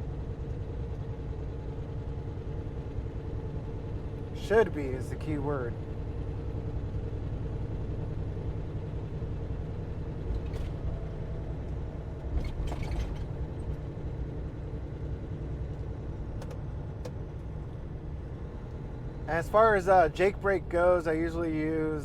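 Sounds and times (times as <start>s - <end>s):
diesel truck engine running: 0.0s - 22.0s
road rumble: 0.0s - 22.0s.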